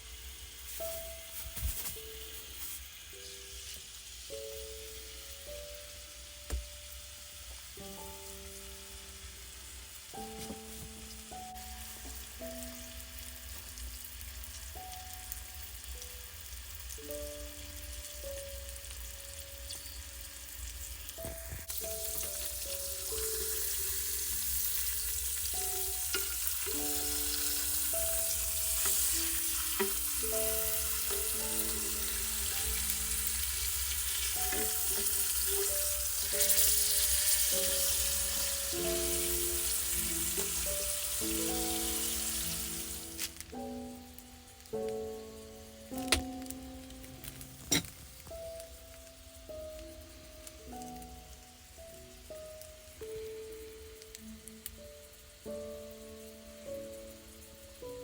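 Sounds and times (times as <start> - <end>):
burgers sizzling in a pan: 0.0 - 58.0
slow instrumental melody: 0.6 - 58.0.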